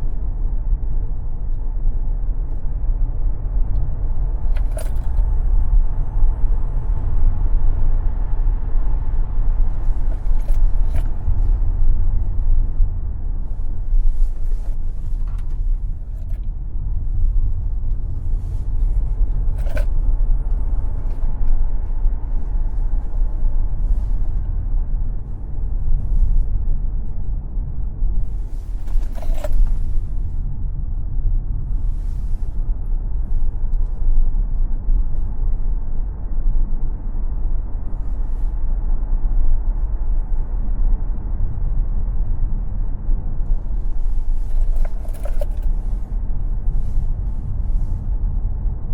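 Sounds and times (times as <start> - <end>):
tyre and road noise: 0.0 - 48.9.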